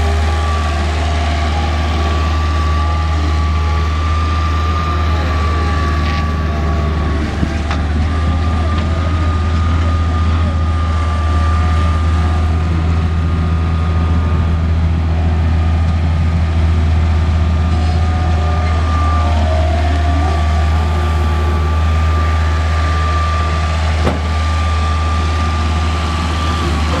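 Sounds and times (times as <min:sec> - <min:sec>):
high whine: 0:00.0 - 0:27.0
skid steer engine running: 0:00.0 - 0:27.0.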